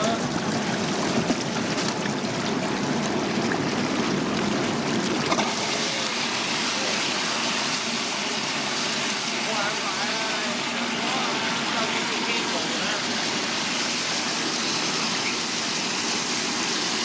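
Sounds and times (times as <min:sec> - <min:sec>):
water rushing and bubbling: 0:00.0 - 0:17.0.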